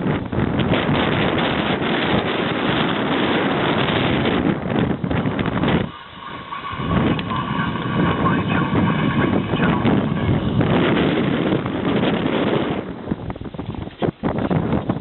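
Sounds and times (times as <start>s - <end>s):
high-pitched multi-tone hum: 0.0s - 13.4s
wind buffeting microphone: 0.0s - 15.0s.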